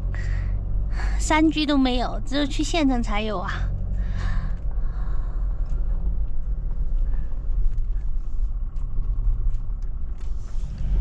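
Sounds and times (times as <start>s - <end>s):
camper van driving rumble: 0.0s - 11.0s.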